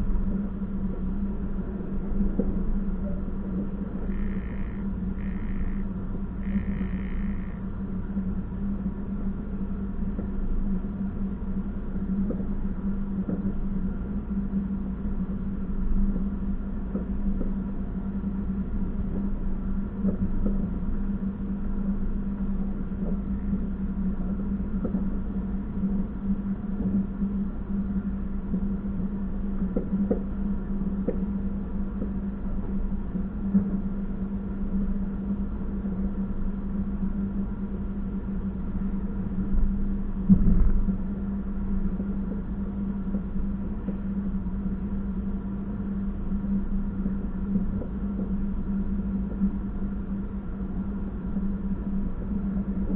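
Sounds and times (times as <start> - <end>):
constant hum: 0.0 - 52.9.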